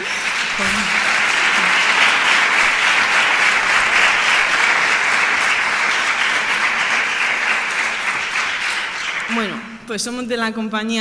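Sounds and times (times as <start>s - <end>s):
large audience applauding: 0.0s - 9.6s.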